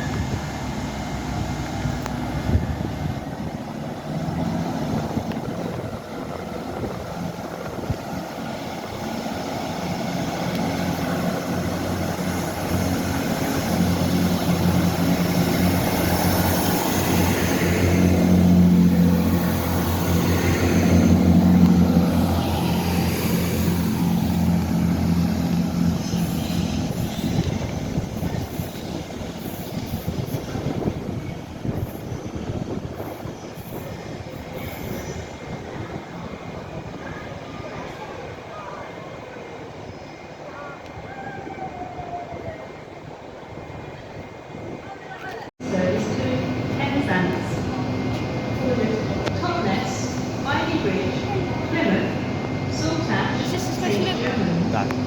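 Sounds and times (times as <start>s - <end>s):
train engines humming: 0.0s - 55.0s.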